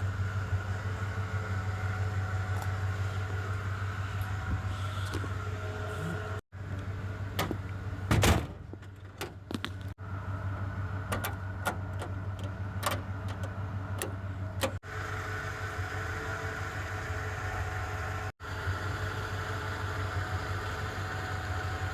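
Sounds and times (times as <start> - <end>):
vehicle engine idling: 0.0 - 21.9.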